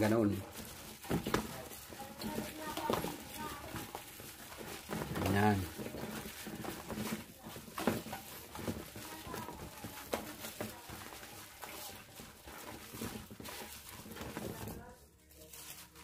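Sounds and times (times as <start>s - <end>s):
batter squelching in bowl: 0.0s - 16.0s.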